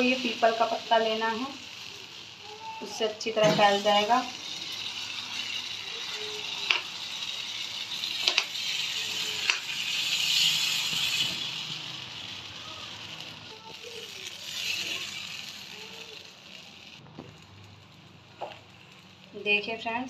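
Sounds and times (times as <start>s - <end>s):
batter sizzling in oil: 0.0s - 20.0s.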